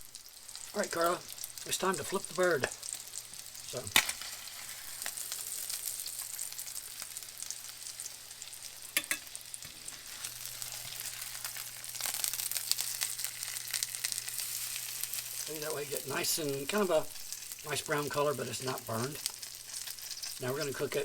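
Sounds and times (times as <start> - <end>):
chicken sizzling in a skillet: 0.0 - 21.0.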